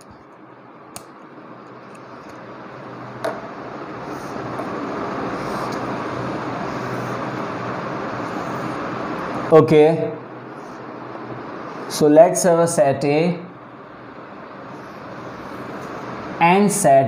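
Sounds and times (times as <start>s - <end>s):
road traffic noise: 0.0s - 12.1s, 13.5s - 16.4s.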